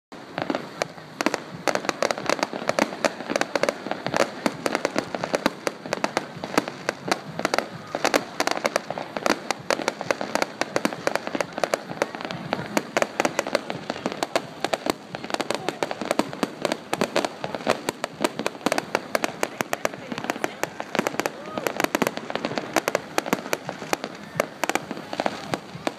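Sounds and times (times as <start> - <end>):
fireworks crackling: 0.1 - 25.9.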